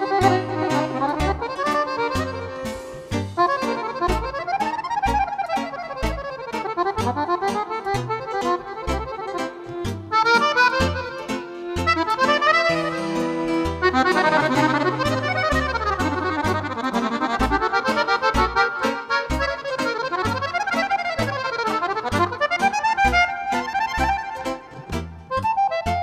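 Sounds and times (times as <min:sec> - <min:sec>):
button accordion folk tune: 0:00.0 - 0:26.0.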